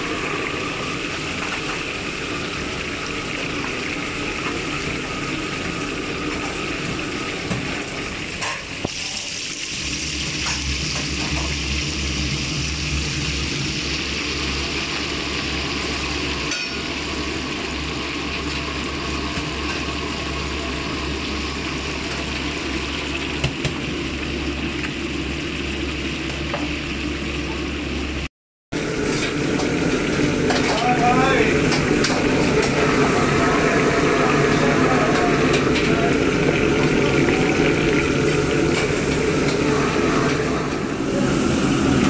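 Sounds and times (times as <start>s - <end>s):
fish frying in oil: 0.0s - 42.0s.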